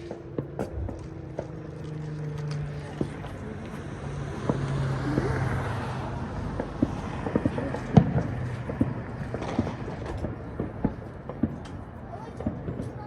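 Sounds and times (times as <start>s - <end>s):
fireworks and firecrackers popping: 0.0s - 13.0s.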